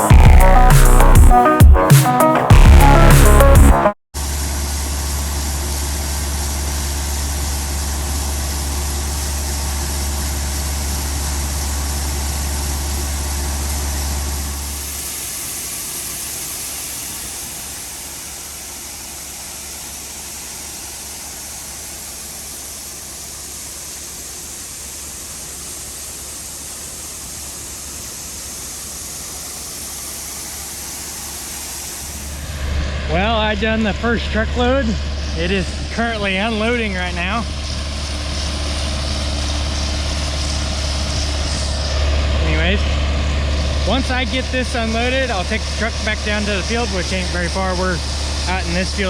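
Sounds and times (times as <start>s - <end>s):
heavy engine idling: 0.0s - 49.0s
steady mechanical hum: 4.2s - 49.0s.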